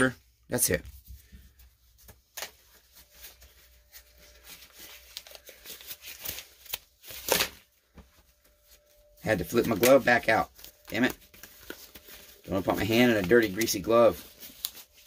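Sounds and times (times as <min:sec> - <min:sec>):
rubber glove rustling and snapping: 0:02.0 - 0:08.9, 0:09.5 - 0:15.0.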